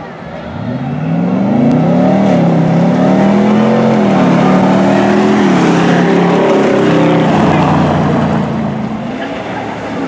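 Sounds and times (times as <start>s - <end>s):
pickup truck engines at full throttle: 0.0s - 10.0s.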